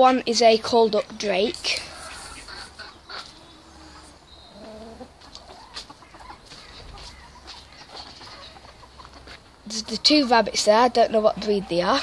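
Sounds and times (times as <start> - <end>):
chicken clucking: 1.7 - 12.0.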